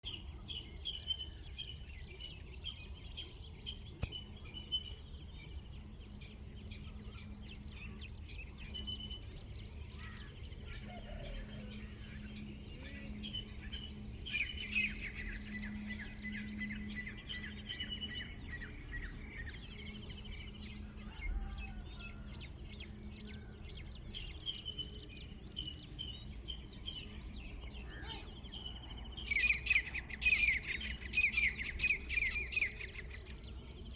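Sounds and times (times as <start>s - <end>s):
birds chirping: 0.0s - 33.9s
faint low hum: 0.0s - 33.9s
high-pitched insect drone: 0.1s - 33.9s.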